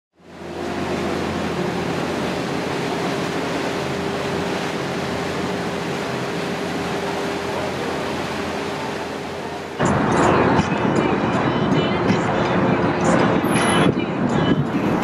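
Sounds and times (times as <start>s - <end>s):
boat engine hum: 0.1s - 15.0s
rush of churning wake: 0.1s - 15.0s.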